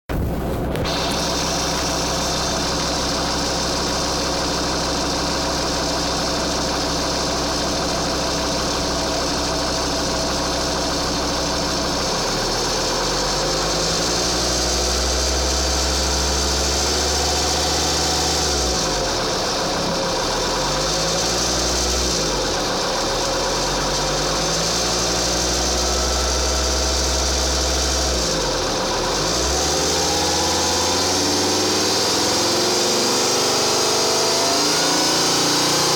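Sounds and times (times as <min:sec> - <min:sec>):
diesel engine idling and revving: 0:00.1 - 0:35.9.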